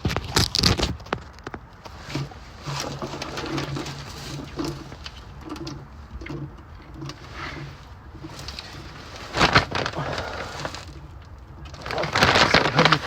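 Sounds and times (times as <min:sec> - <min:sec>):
handling noise clatter: 0:00.0 - 0:13.0.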